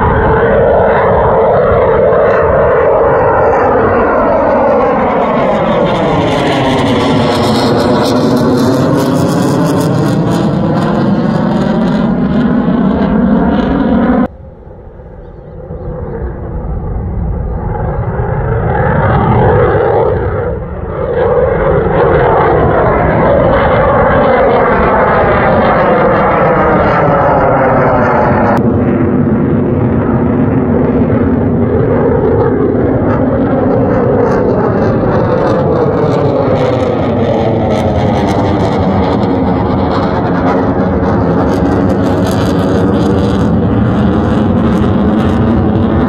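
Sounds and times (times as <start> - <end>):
jet flying overhead: 0.0 - 46.0.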